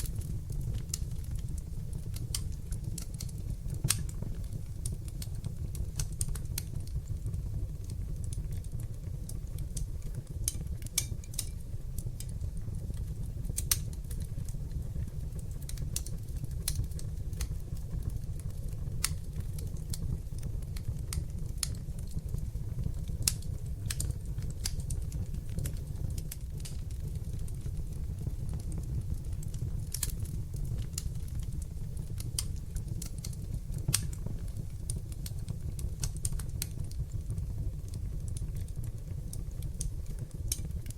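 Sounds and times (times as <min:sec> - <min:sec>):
fire crackling and popping: 0:00.0 - 0:40.9
fire rumbling in fireplace: 0:00.0 - 0:40.9.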